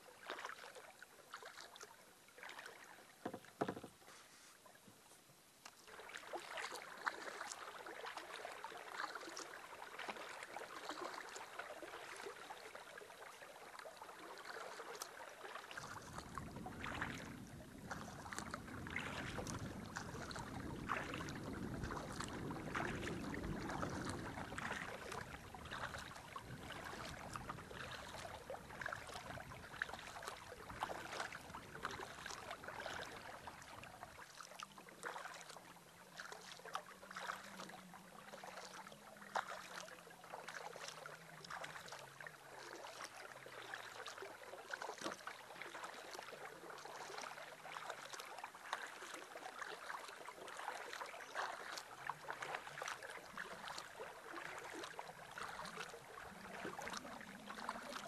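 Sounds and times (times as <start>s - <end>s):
paddle splashing water: 0.0s - 58.0s.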